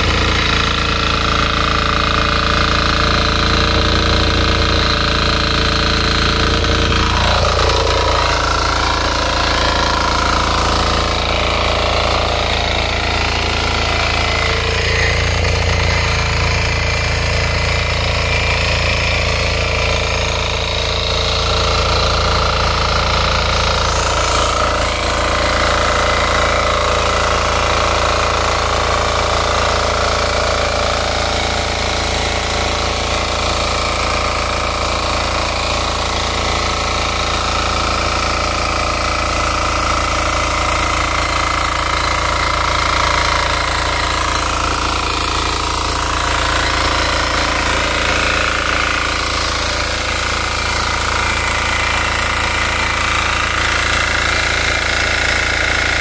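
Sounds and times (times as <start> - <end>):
tiller engine running: 0.0 - 56.0
tines churning soil: 0.0 - 56.0.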